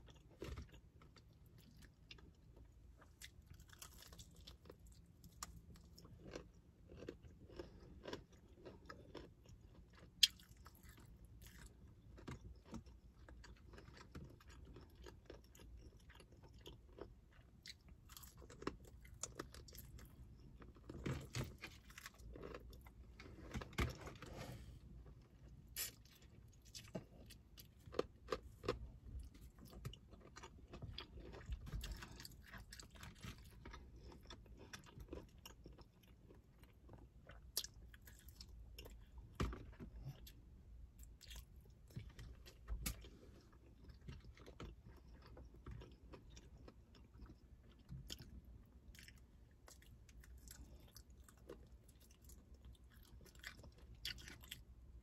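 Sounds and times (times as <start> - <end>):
chewing crispy chicken: 0.0 - 55.0.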